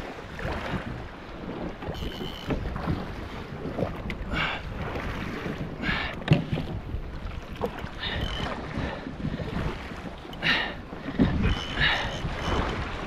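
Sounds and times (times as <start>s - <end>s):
waves slapping against hull: 0.0s - 13.0s
wind buffeting microphone: 0.0s - 13.0s.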